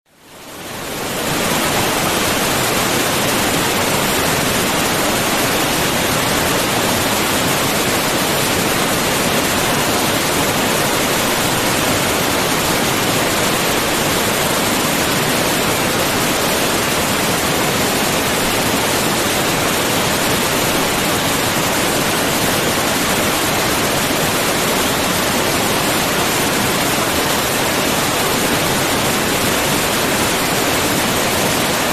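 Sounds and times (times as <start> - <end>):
waterfall rushing: 0.3 - 31.9.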